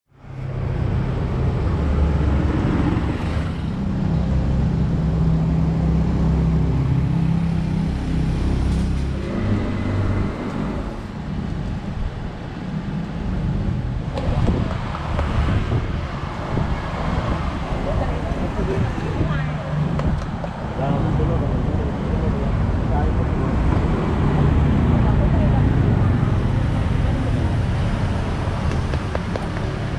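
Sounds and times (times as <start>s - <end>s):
road noise: 0.1s - 29.9s
vehicle engine humming: 0.1s - 29.9s.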